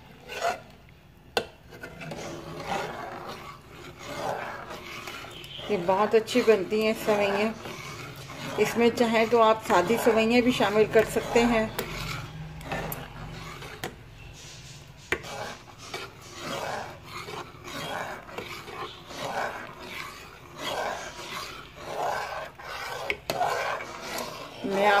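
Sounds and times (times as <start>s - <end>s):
metal spoon scraping a pot: 0.0s - 25.0s.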